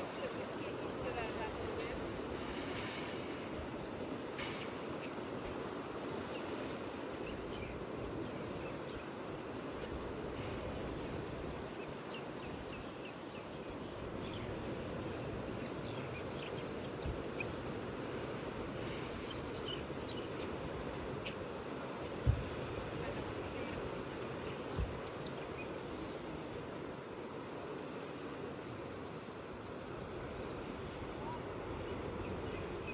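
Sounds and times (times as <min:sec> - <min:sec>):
ocean surf washing: 0:00.0 - 0:32.9.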